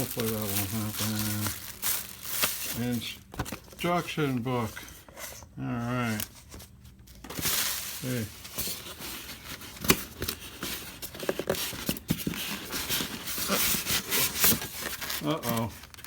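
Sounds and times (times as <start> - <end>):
cardboard and styrofoam rustling: 0.0 - 16.0.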